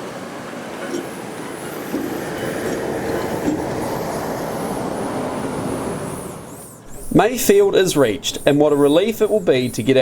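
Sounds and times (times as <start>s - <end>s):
steam engine running gear clatter: 0.6s - 10.0s.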